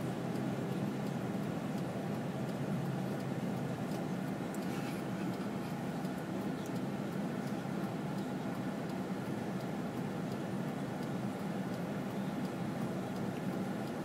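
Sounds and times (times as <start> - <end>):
car engine hum inside cabin: 0.0 - 14.0.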